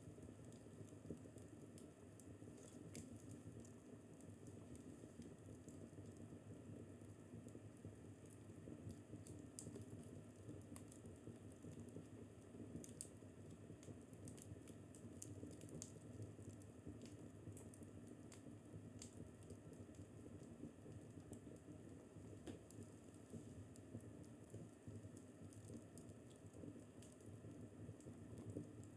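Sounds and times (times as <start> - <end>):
low rumble of burning logs: 0.0 - 28.9
wood fire crackling: 0.0 - 28.9.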